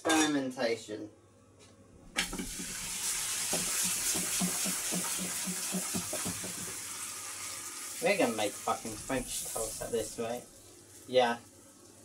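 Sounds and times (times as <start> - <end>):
bread sizzling in frying pan: 2.2 - 12.0.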